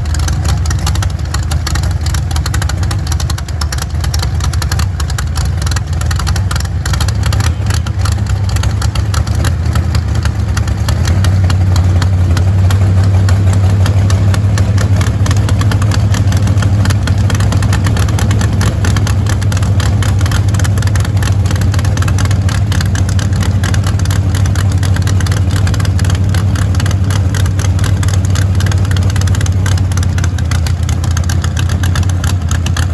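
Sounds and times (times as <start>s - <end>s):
race car engine idling: 0.0s - 32.9s.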